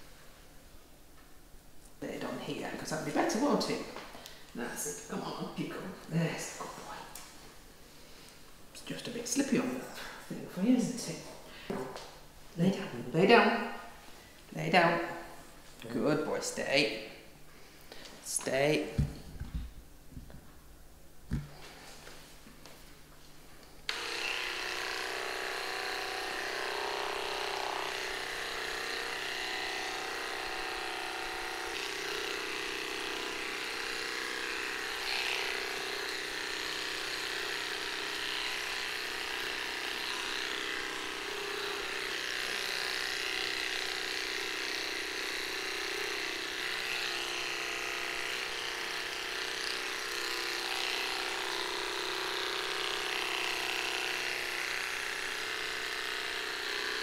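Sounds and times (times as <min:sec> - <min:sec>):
pet hair clippers buzzing: 0:02.2 - 0:07.4, 0:08.8 - 0:17.3, 0:18.0 - 0:20.4, 0:21.3 - 0:21.7, 0:23.8 - 0:57.0.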